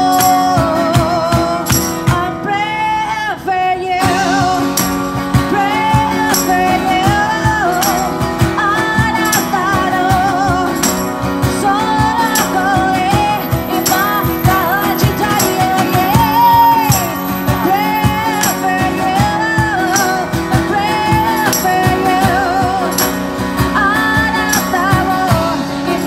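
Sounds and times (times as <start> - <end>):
tambourine: 0.0 - 2.2, 4.2 - 26.0
cajon beat: 0.0 - 2.8, 4.0 - 26.0
person singing into a microphone: 0.0 - 26.0
strummed acoustic guitar: 0.0 - 26.0.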